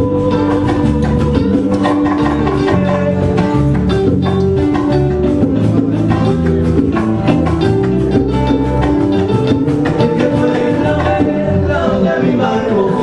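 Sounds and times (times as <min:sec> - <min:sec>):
latin band playing: 0:00.0 - 0:13.0.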